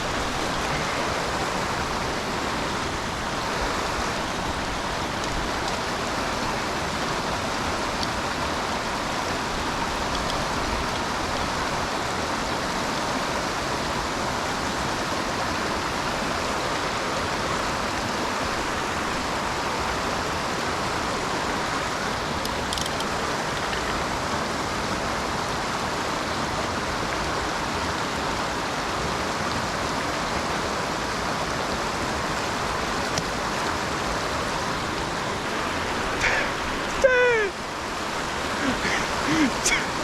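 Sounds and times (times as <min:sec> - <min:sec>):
mountain torrent rushing: 0:00.0 - 0:40.0.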